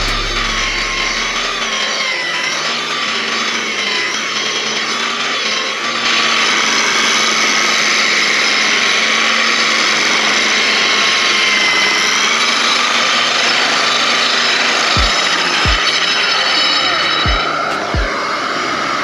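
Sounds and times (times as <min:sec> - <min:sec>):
sander motor whine: 0:00.0 - 0:19.0.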